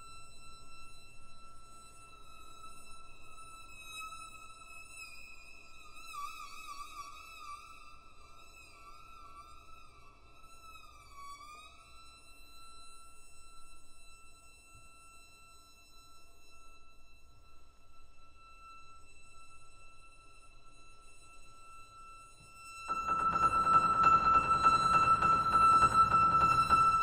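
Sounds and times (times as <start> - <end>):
violin sustained note with vibrato: 0.0 - 27.0.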